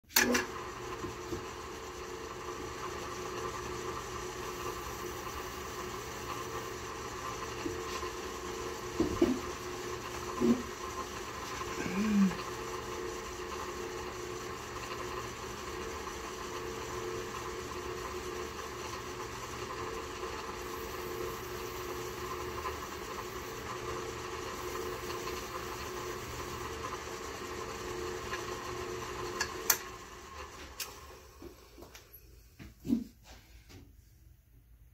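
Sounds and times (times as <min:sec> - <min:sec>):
drill press running: 0:00.0 - 0:32.2.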